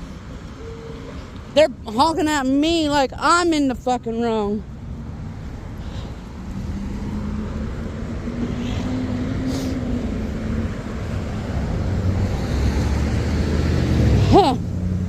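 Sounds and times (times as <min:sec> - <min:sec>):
heavy vehicle rumble: 0:00.0 - 0:15.0
highway traffic passing: 0:00.0 - 0:15.0.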